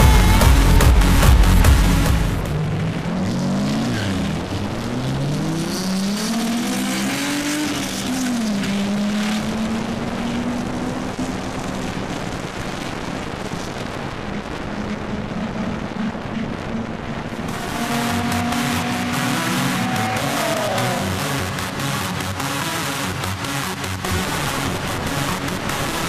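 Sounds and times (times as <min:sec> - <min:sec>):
cars accelerating hard: 0:00.0 - 0:26.0.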